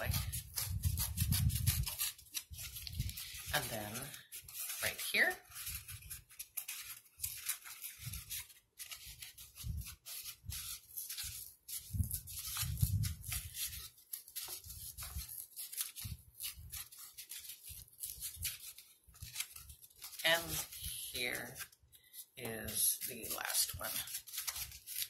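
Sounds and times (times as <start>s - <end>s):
paper egg carton ripping: 0.0s - 25.0s.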